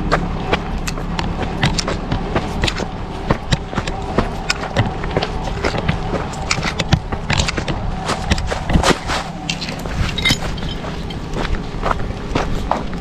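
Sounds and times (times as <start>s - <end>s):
vehicle engine running: 0.0s - 13.0s
irregular clicks and crunches: 0.8s - 11.5s.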